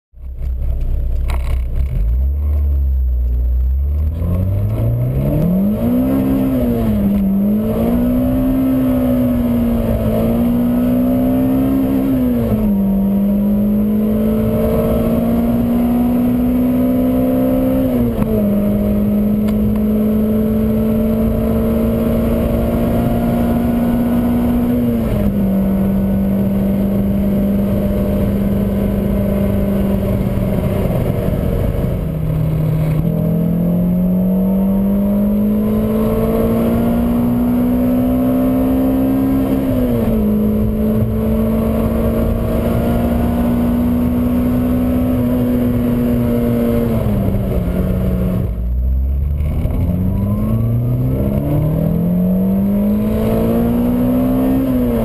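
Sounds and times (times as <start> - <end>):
car engine accelerating: 0.2 - 55.0.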